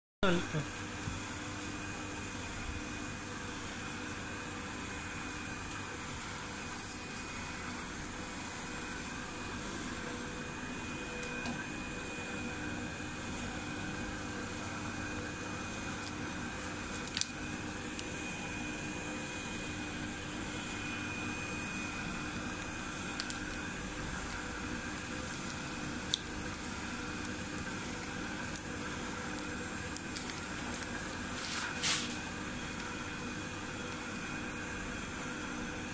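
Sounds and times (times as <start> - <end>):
sealer motor and fan hum: 0.2 - 35.9.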